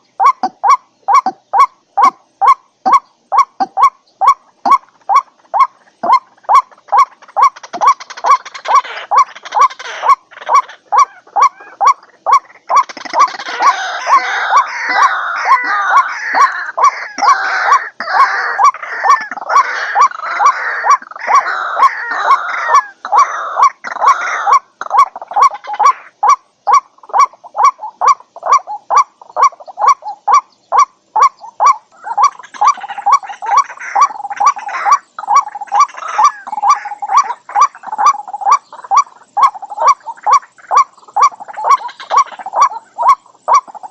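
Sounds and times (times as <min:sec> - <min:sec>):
overlapping croaking bird calls: 0:00.0 - 0:43.9
repeated short bird call: 0:00.0 - 0:43.9.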